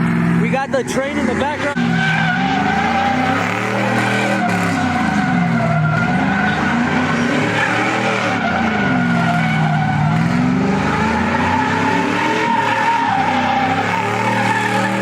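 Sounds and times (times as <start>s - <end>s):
car engine revving: 0.0s - 15.0s
spinning tyres squealing: 0.3s - 15.0s.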